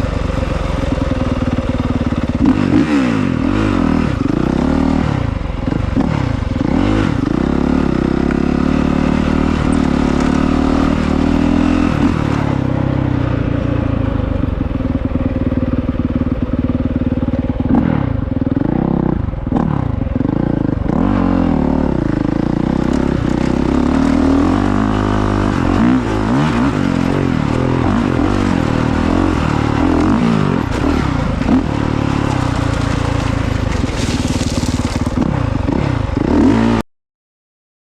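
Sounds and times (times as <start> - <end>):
dirt bike engine revving: 0.0 - 36.8.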